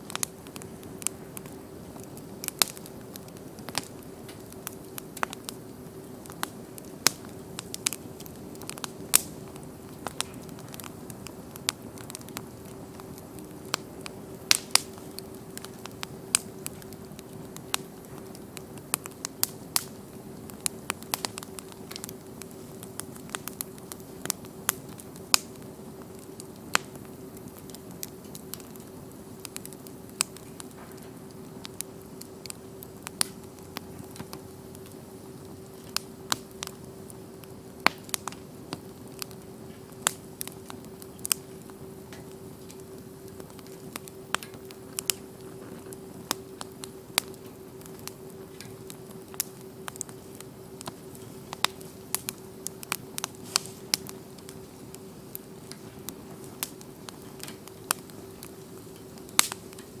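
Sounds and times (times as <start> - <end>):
campfire crackling and popping: 0.0 - 60.0
faint steady hum: 0.0 - 60.0.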